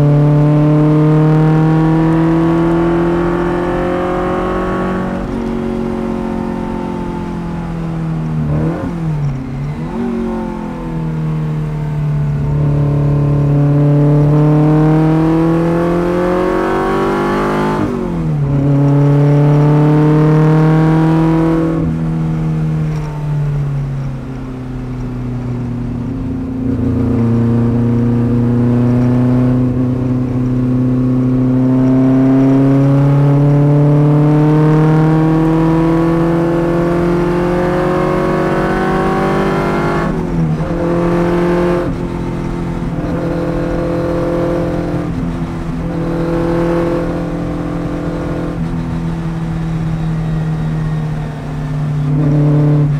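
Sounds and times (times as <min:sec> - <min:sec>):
racing car engine revving: 0:00.0 - 0:23.1, 0:26.6 - 0:52.9.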